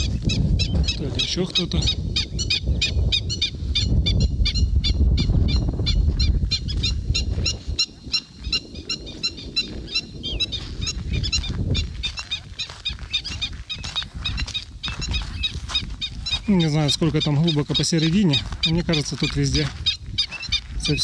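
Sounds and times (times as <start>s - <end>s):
birds alarm calling: 0.0s - 21.0s.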